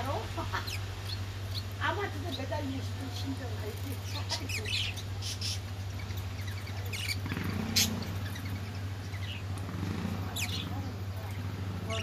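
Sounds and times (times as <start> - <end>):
budgerigars chirping: 0.0 - 12.0
steady low hum: 0.0 - 12.0.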